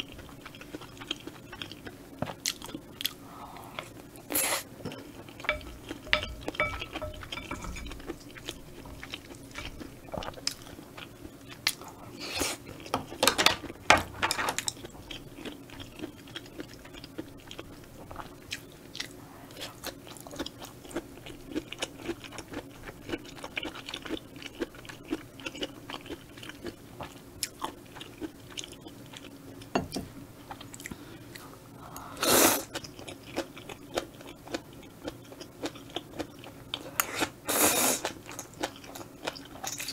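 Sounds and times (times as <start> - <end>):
close chewing and eating: 0.0 - 39.9.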